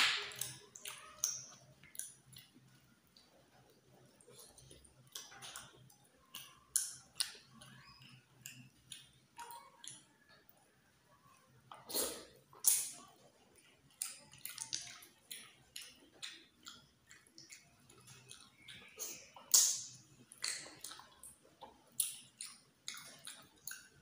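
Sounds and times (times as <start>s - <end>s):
wet lip smacks and chewing: 0.4s - 2.6s, 4.1s - 10.3s, 11.7s - 24.0s.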